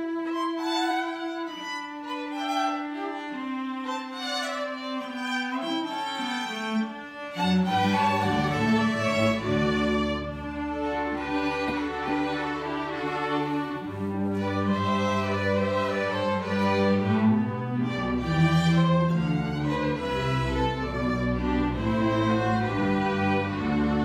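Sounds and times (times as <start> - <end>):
string orchestra playing: 0.0 - 24.0.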